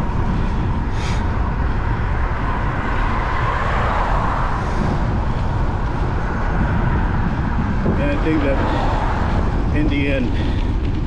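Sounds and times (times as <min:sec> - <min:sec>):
vehicle passing: 0:00.0 - 0:11.0
wind and road noise: 0:00.0 - 0:11.0.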